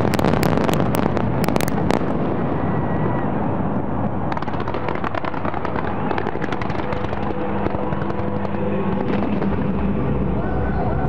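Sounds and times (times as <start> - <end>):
fireworks crackling and popping: 0.0 - 10.4
steady low drone: 0.0 - 11.0.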